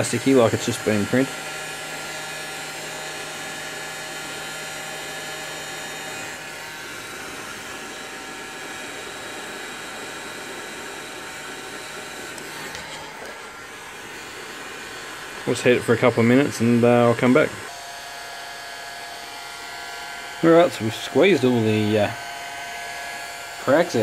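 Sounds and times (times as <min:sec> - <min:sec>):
faint motor whine: 0:00.0 - 0:24.0
heat gun blowing: 0:00.0 - 0:24.0.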